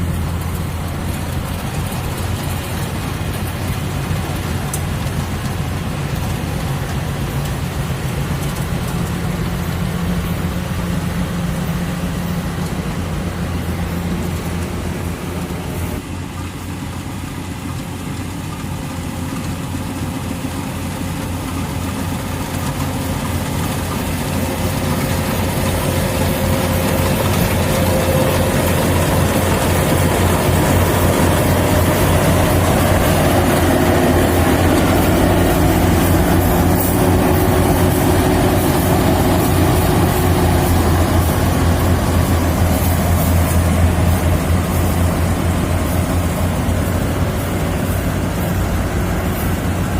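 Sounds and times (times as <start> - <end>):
combine harvester diesel engine: 0.0 - 49.9.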